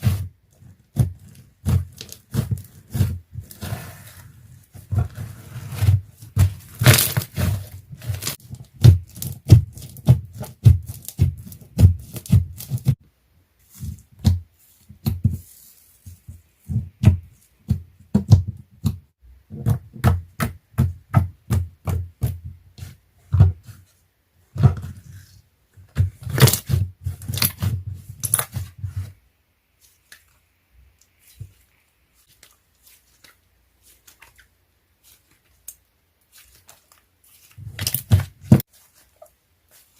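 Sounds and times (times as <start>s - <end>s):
slime squishing by hand: 0.0s - 39.9s.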